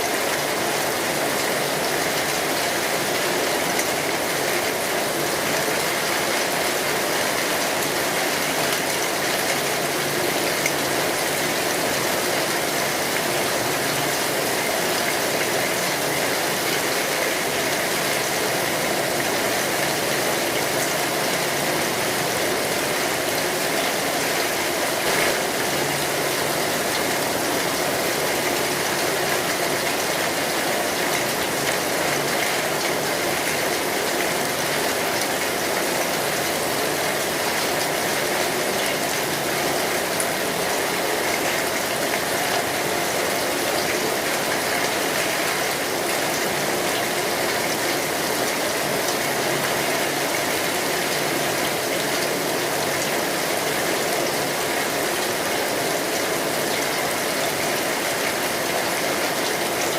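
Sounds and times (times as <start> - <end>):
heavy rain on a metal roof: 0.0 - 59.9.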